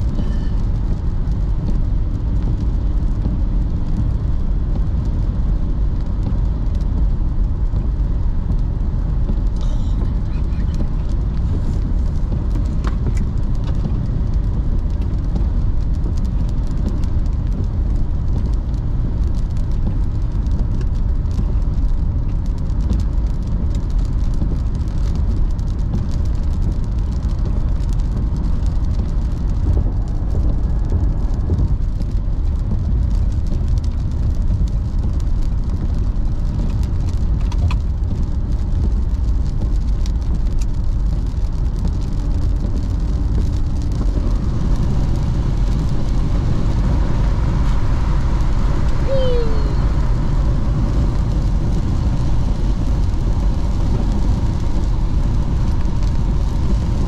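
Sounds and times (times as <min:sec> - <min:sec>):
rain ticking on windshield: 0:00.0 - 0:57.0
road and tyre rumble: 0:00.0 - 0:57.0.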